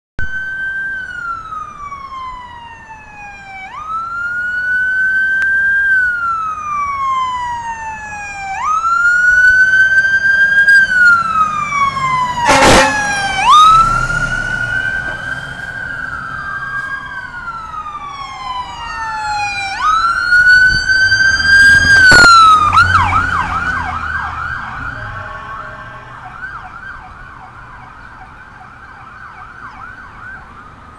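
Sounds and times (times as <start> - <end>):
fast siren yelp: 0.2 - 30.8
siren wailing: 0.2 - 30.9.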